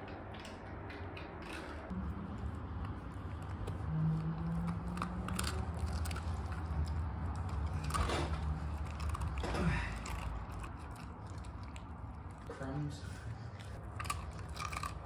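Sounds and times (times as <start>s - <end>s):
low steady hum: 0.0s - 15.0s
dog crunching hard biscuit: 0.4s - 12.6s, 13.6s - 15.0s.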